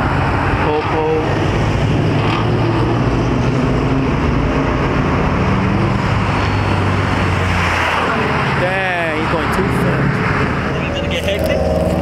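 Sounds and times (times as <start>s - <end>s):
car engines droning: 0.0s - 12.0s
passing traffic: 0.0s - 12.0s.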